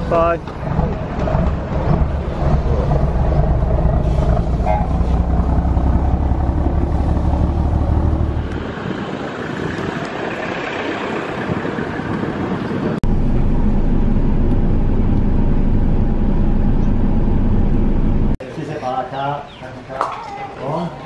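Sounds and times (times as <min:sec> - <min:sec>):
motor vehicle running: 0:00.0 - 0:18.4.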